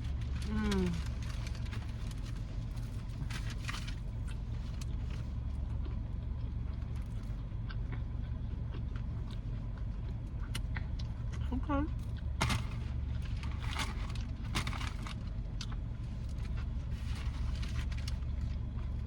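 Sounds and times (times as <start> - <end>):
car engine humming: 0.0 - 7.7, 9.2 - 19.0
close-up chewing: 0.0 - 19.0.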